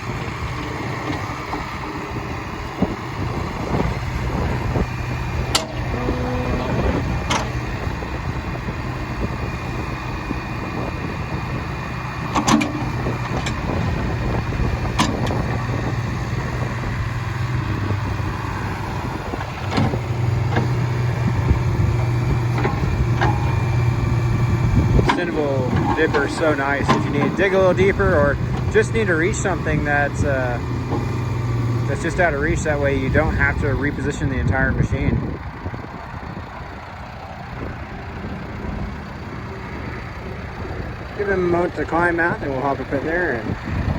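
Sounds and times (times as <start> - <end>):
diesel engine under hydraulic load: 0.0 - 43.9.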